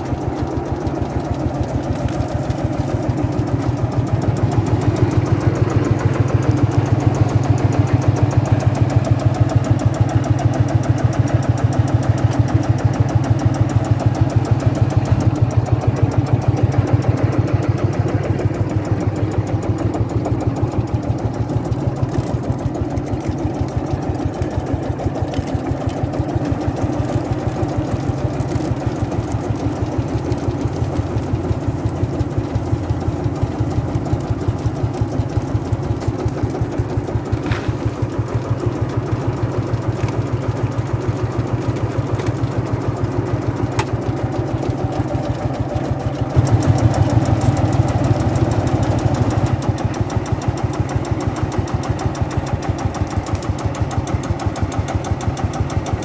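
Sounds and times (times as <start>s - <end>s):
tractor engine beating: 0.0s - 56.0s.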